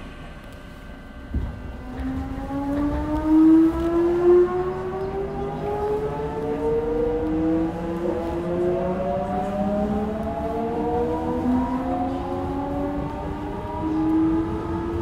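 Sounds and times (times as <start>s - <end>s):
train wheels rumbling on rails: 1.1s - 15.0s
electric train motor whine: 1.3s - 15.0s.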